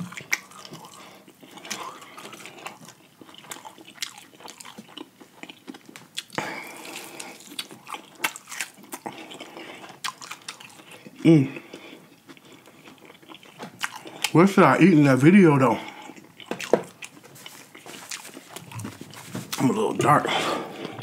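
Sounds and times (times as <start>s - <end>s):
biting and chewing chicken: 0.0s - 14.4s, 15.8s - 19.8s.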